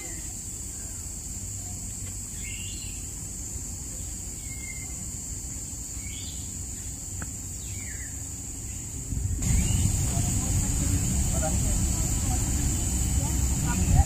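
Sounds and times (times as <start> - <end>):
high-pitched insect drone: 0.0 - 14.0
low outdoor rumble: 0.0 - 14.0.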